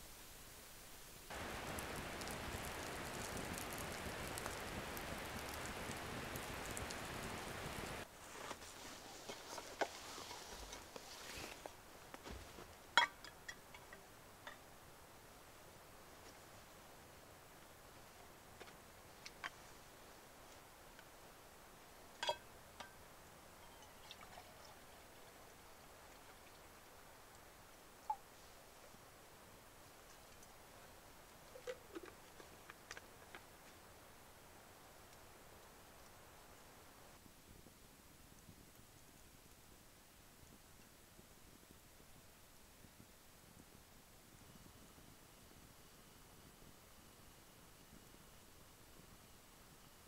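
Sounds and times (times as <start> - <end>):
campfire hissing and crackling: 0.0 - 50.0.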